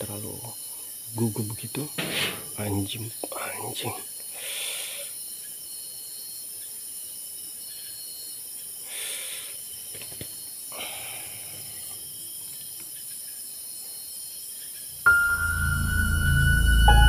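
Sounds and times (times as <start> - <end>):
insects at night: 0.0 - 17.0.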